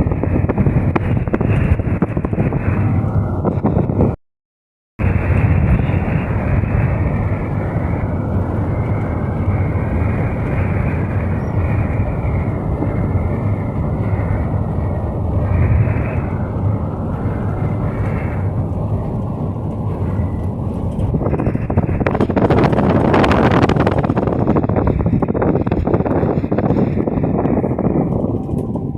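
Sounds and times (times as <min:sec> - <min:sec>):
bus engine and road rumble: 0:00.0 - 0:04.2, 0:05.0 - 0:28.9.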